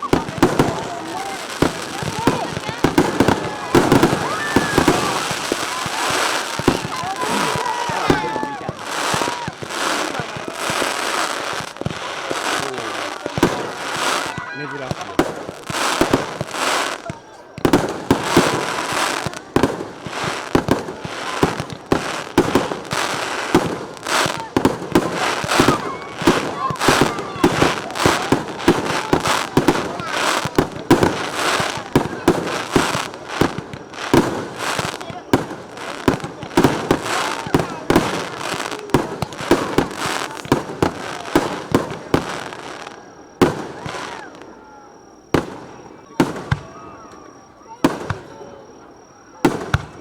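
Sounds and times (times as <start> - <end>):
firework shells bursting: 0.0 - 44.3
firework crackling: 0.0 - 50.0.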